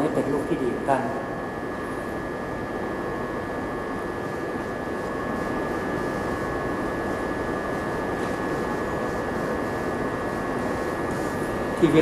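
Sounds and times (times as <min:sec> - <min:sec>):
hum and hiss: 0:00.0 - 0:12.0.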